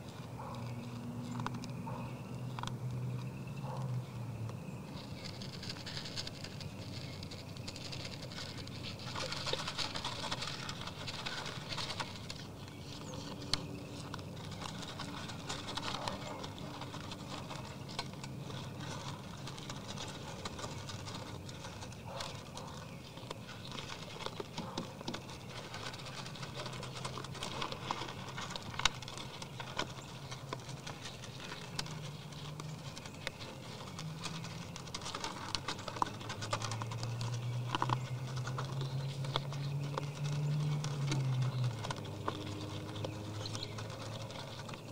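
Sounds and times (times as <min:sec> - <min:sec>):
deer crunching feed: 0:00.0 - 0:44.9.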